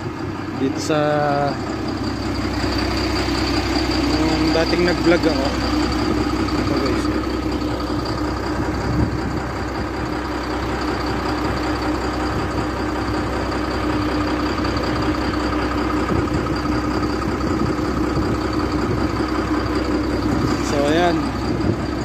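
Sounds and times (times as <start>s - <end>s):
vehicle engine drone: 0.0s - 22.0s.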